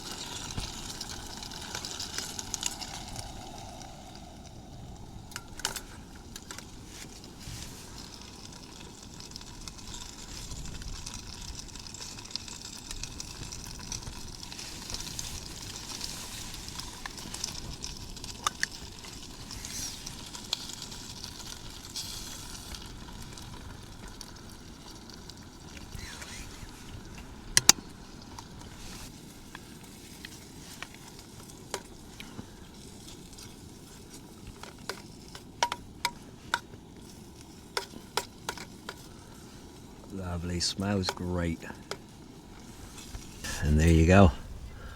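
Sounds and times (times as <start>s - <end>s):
steady hiss: 0.0s - 13.0s, 14.0s - 24.8s, 25.4s - 44.9s.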